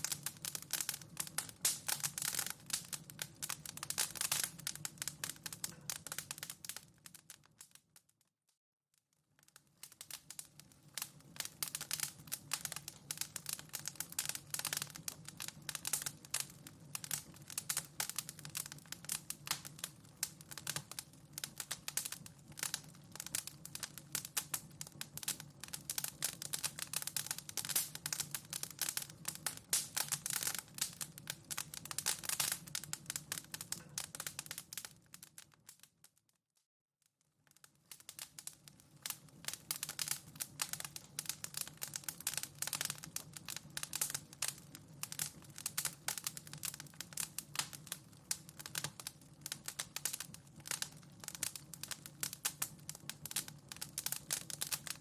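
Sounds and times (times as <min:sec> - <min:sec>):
fireplace fire crackling: 0:00.0 - 0:08.1, 0:09.3 - 0:36.2, 0:37.5 - 0:55.0.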